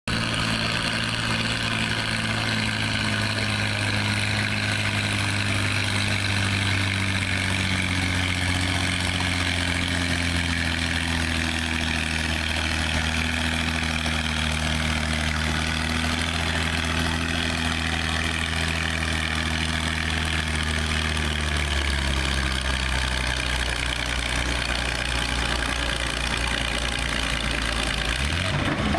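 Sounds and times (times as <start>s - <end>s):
tractor engine labouring: 0.0s - 28.9s.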